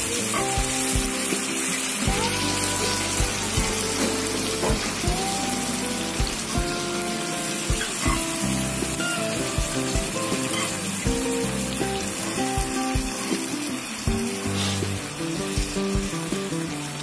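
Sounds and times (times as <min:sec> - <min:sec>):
background music with beat: 0:00.0 - 0:17.0
chicken sizzling in oil: 0:00.0 - 0:17.0.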